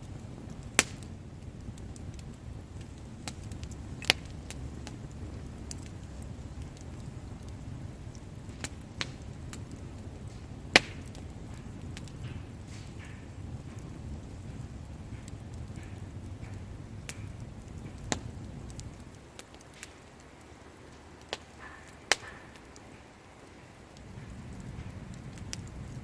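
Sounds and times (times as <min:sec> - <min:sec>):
burning wood crackling and popping: 0:00.0 - 0:26.0
campfire flames rumbling: 0:00.0 - 0:26.0.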